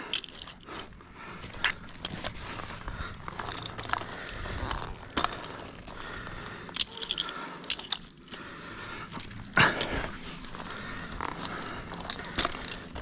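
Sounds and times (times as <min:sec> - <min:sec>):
climbing gear scraping bark: 0:00.0 - 0:13.0.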